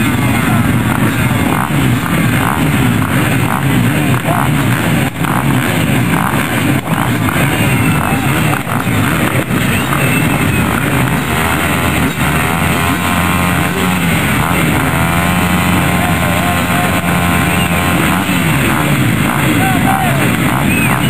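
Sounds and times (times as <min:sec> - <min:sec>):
motocross bike engines running: 0:00.0 - 0:21.0.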